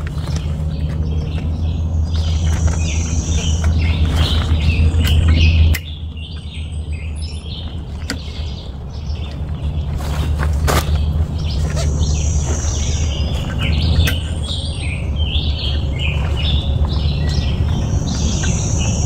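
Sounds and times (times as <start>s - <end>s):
songbirds chirping: 0.0s - 19.0s
steady low rumble: 0.0s - 19.0s.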